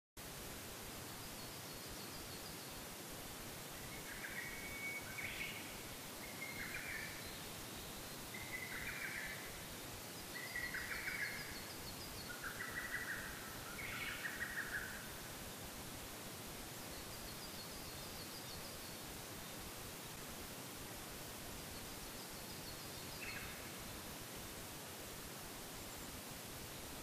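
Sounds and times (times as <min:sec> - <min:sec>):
background hiss: 0:00.2 - 0:27.0.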